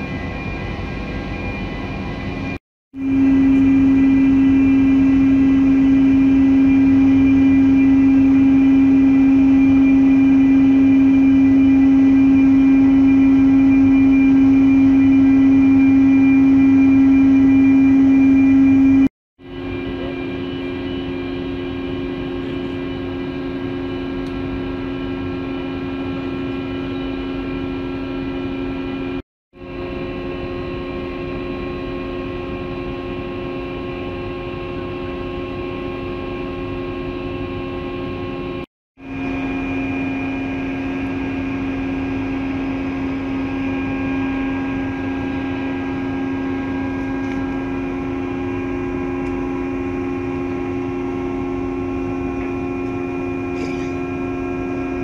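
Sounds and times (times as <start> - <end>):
ship machinery drone: 0.0 - 55.0.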